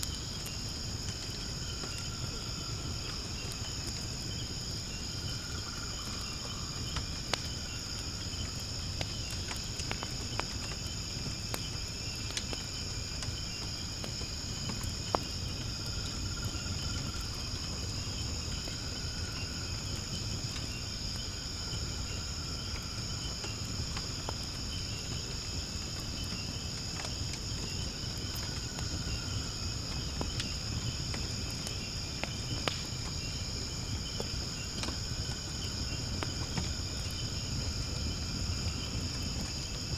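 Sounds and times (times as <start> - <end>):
firewood crackling and popping: 0.0 - 39.9
insects chirping: 0.0 - 39.9
low fire rumble: 0.0 - 39.9.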